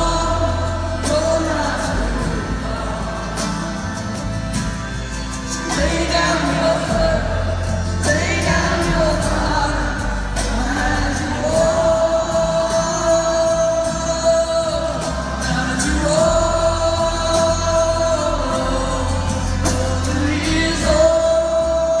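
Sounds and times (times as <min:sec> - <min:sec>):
bass and drum beat: 0:00.0 - 0:22.0.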